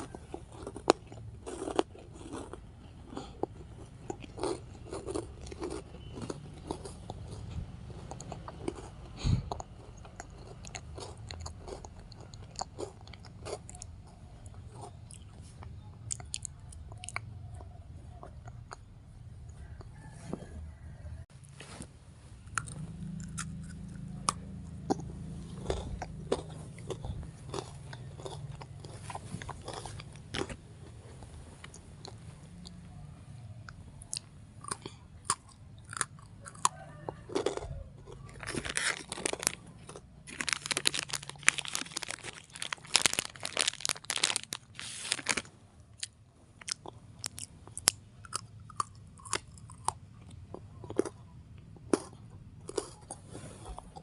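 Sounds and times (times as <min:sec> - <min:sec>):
crunchy chewing: 0:00.0 - 0:21.0, 0:22.4 - 0:54.0.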